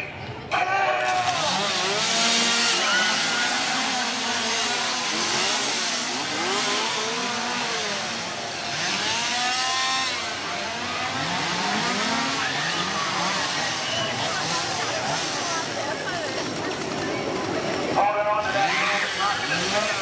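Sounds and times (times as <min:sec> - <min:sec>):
chainsaws revving: 0:00.5 - 0:20.0.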